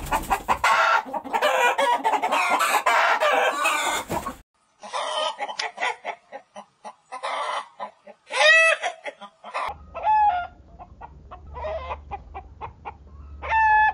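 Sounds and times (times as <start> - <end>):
chicken squawking: 0.0 - 13.9
chickens clucking: 0.0 - 13.9.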